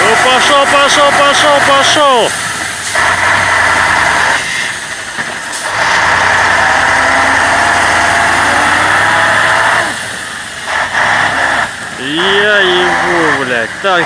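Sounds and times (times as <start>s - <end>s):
vehicle engine revving under load: 0.0s - 14.0s.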